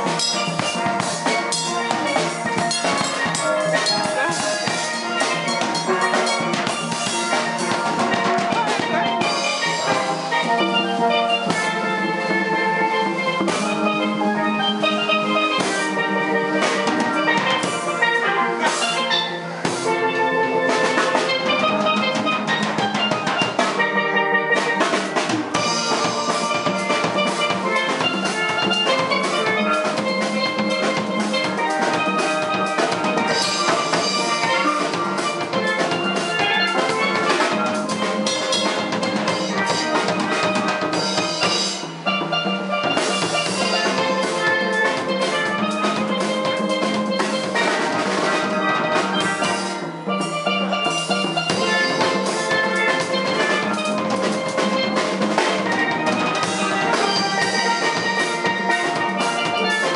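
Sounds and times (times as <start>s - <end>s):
deep drum beats: 0.0s - 59.9s
drums: 0.0s - 59.9s
steel pan band playing: 0.0s - 59.9s.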